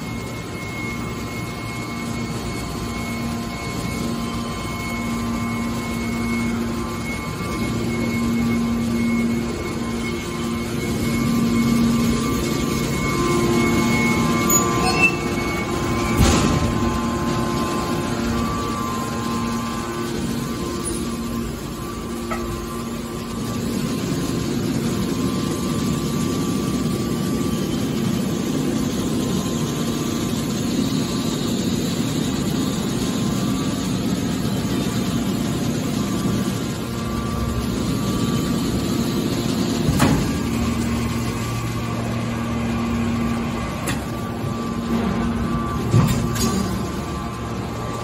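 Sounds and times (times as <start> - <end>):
hydraulic power unit hum and whine: 0.0 - 48.0.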